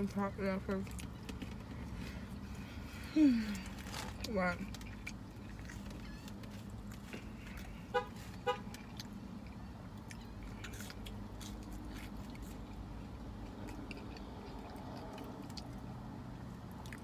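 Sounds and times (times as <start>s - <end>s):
chewing french fries: 0.0s - 17.0s.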